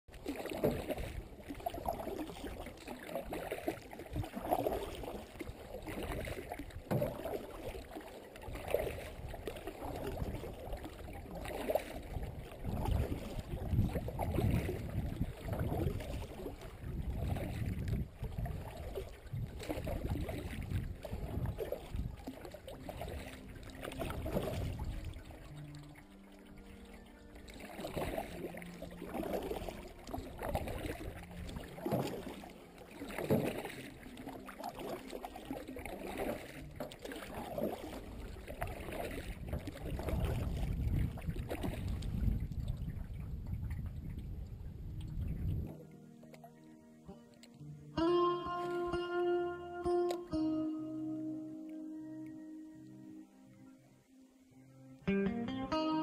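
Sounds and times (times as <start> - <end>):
water gurgling along hull: 0.0 - 55.0
paddle strokes in water: 0.1 - 53.5.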